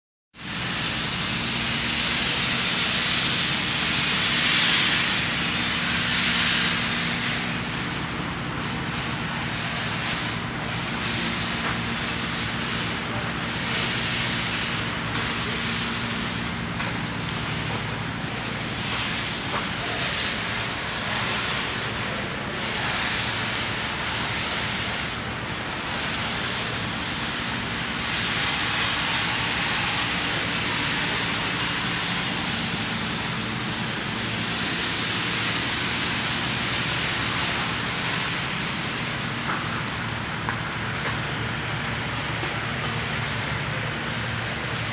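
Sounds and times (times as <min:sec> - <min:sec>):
low engine-like hum: 0:00.4 - 0:44.9.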